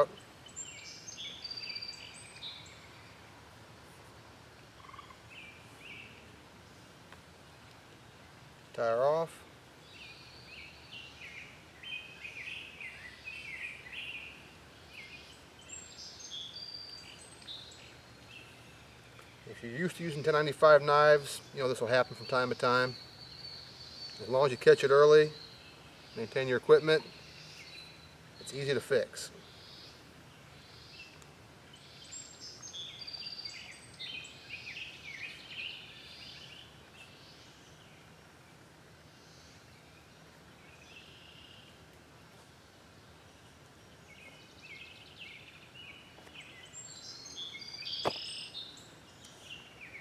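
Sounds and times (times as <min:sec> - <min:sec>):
birds chirping and singing: 0:00.0 - 0:03.2, 0:09.9 - 0:38.2, 0:39.2 - 0:41.7, 0:43.0 - 0:50.0
faint outdoor background noise: 0:00.0 - 0:50.0.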